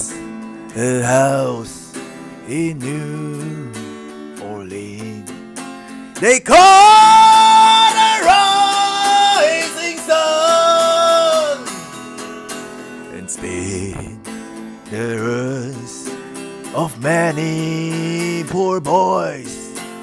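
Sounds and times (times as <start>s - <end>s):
electric guitar lead line: 0.0s - 20.0s.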